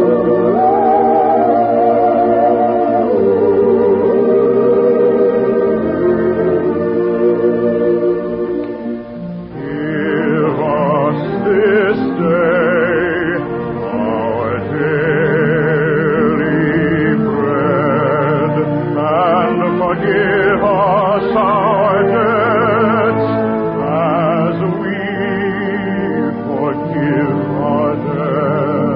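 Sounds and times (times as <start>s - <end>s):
operatic singer with vibrato: 0.0s - 8.6s, 9.5s - 28.9s
orchestral music on old radio: 0.0s - 28.9s.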